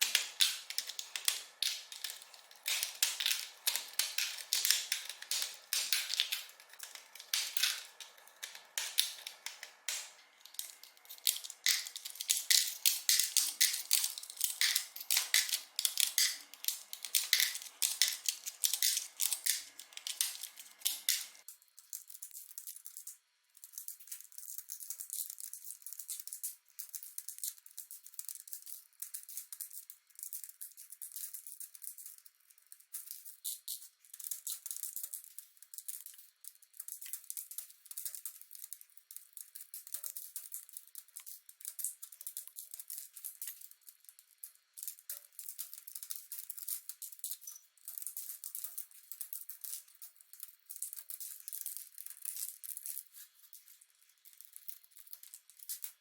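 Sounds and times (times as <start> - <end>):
small plastic clicks: 0.0 - 56.0.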